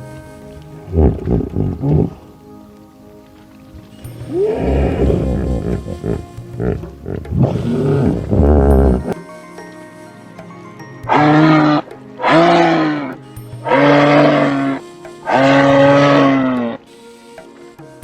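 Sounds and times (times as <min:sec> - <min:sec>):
background music: 0:00.0 - 0:18.0
animal calling: 0:00.4 - 0:09.2, 0:11.0 - 0:16.9.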